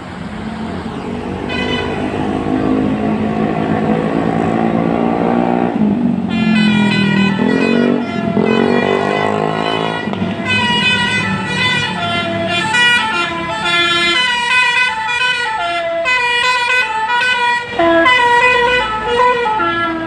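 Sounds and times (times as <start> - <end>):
bus engine rumble: 0.0 - 20.0
bus melody horn: 1.3 - 20.0.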